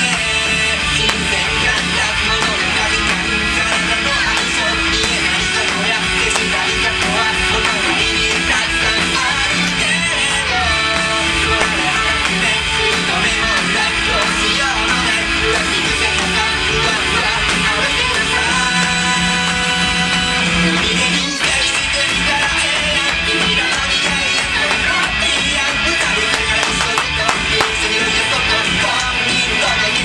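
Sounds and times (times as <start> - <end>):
loud guitar music: 0.0 - 30.0.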